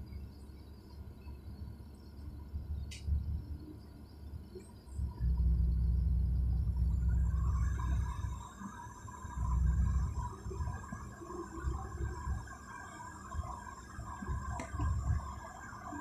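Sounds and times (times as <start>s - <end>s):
vehicle road and wind rumble: 0.0s - 16.0s.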